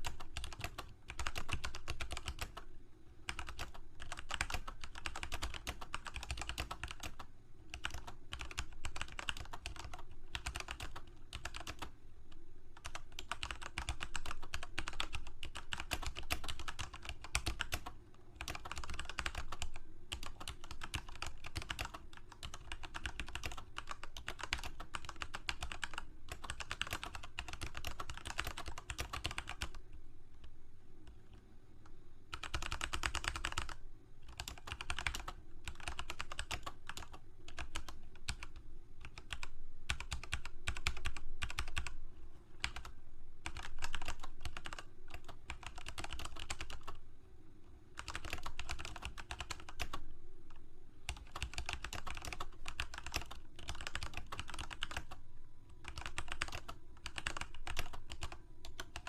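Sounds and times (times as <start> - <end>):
keyboard typing: 0.0 - 2.7, 3.3 - 29.9, 32.3 - 42.0, 42.6 - 47.0, 48.0 - 55.2, 55.8 - 59.0.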